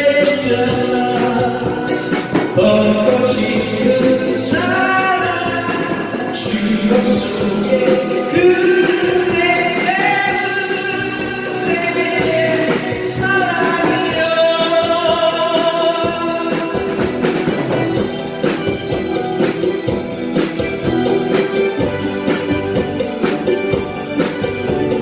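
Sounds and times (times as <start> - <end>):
drum kit beat: 0.0 - 25.0
person singing: 0.0 - 25.0
sustained keyboard chords: 0.0 - 25.0.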